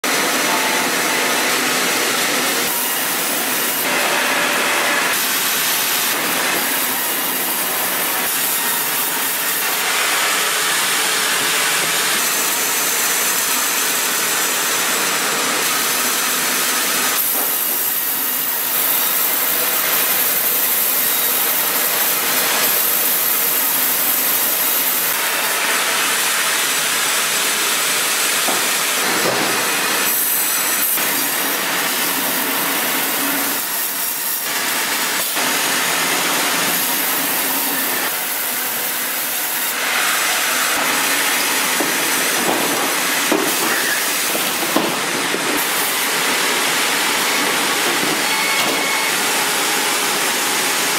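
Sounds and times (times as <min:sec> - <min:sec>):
band saw cutting through log: 0:00.0 - 0:50.9
sawmill machine running: 0:00.0 - 0:50.9.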